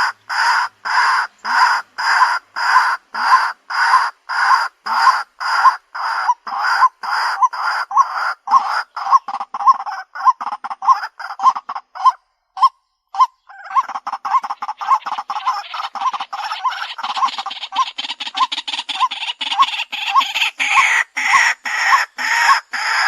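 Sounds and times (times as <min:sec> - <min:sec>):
waterhen harsh repeated calls: 0:00.0 - 0:23.0.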